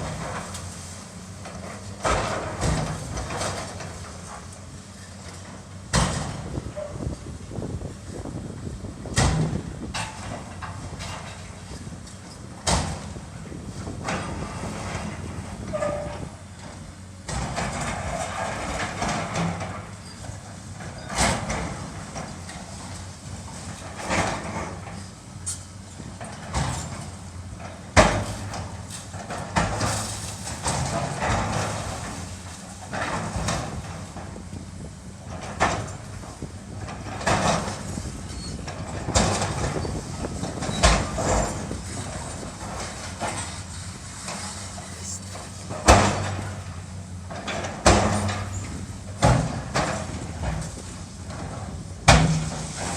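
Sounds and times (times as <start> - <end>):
heavy machinery engine: 0.0 - 52.9.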